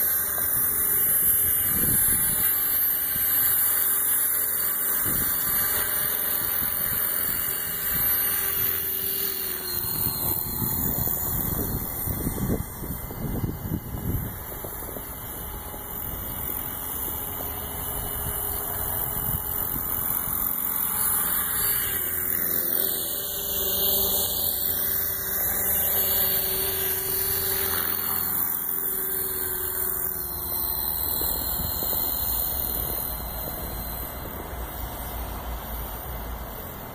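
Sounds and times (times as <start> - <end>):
rc helicopter motor whine: 0.0 - 36.9.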